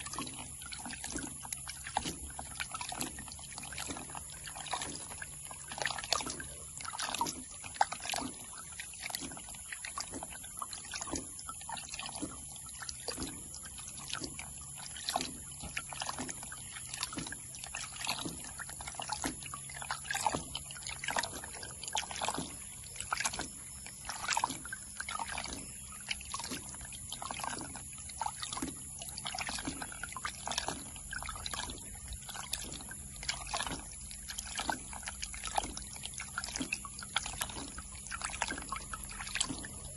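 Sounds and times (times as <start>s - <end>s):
water sloshing and splashing in a pan: 0.0s - 39.9s.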